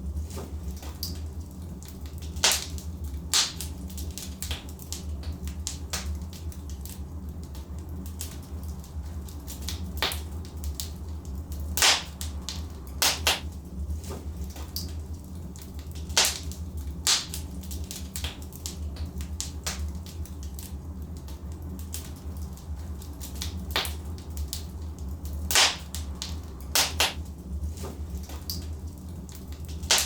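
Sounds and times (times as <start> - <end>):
logs crackling in fireplace: 0.0 - 30.0
low steady rumble: 0.0 - 30.0.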